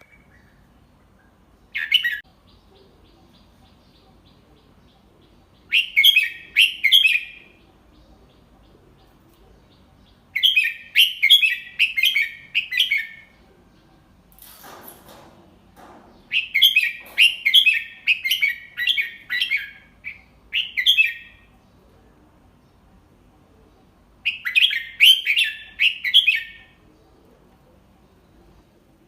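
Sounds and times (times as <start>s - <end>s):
bulbul singing: 0.0s - 14.3s, 15.8s - 21.8s, 23.8s - 28.7s.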